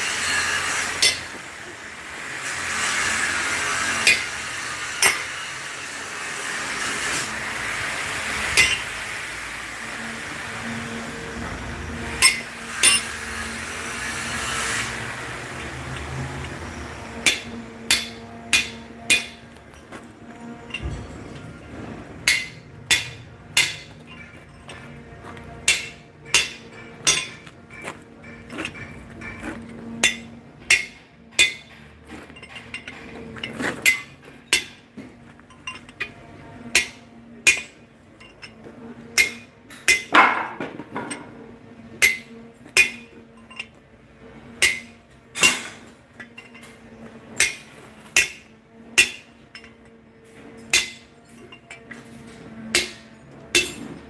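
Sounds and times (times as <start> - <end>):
hammer striking steel: 0.1 - 9.3, 12.0 - 43.8, 44.4 - 54.0.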